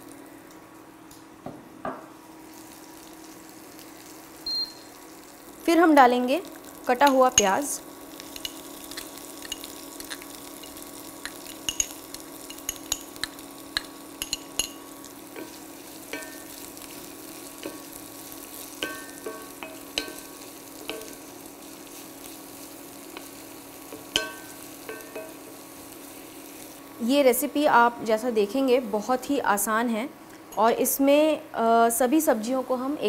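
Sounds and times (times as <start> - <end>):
steady low hum: 0.0 - 33.0
onions sizzling in hot oil: 2.1 - 29.7.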